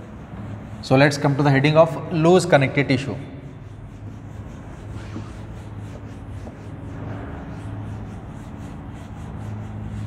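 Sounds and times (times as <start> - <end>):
duster rubbing on whiteboard: 0.0 - 10.0
steady low hum: 0.0 - 10.0.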